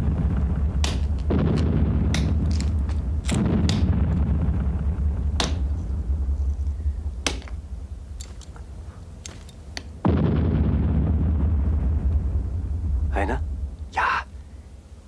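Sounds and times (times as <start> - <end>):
sharp cracks: 0.0 - 12.5
steady low rumble: 0.0 - 15.0.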